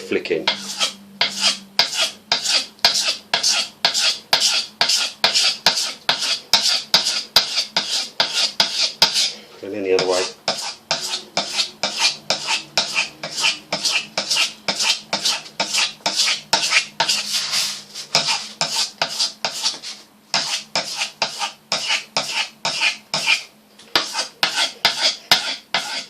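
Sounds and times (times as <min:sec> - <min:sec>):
knife scraping on sandpaper: 0:00.5 - 0:09.4, 0:10.0 - 0:26.0.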